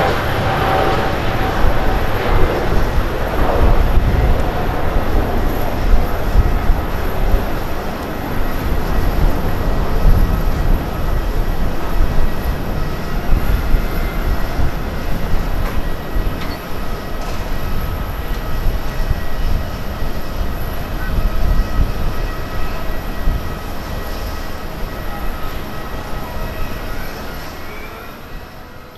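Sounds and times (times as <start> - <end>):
faint whining tones: 0.0 - 28.9
jet engines rumbling: 0.0 - 28.9.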